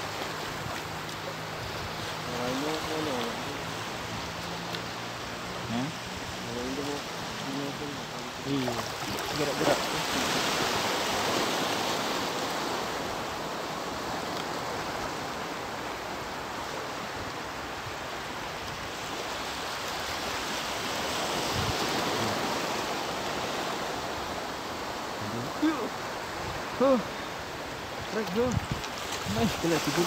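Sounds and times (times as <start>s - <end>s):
choppy sea water: 0.0s - 30.0s
wind: 0.0s - 30.0s.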